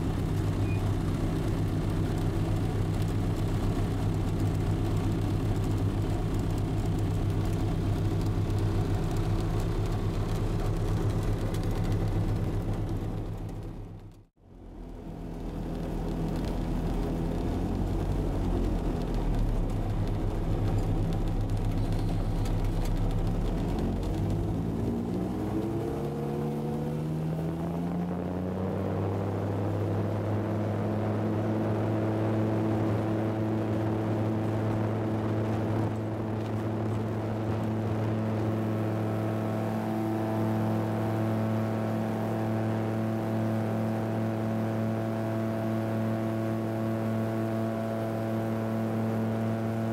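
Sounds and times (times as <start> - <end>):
light aircraft engine and propeller: 0.0 - 49.9.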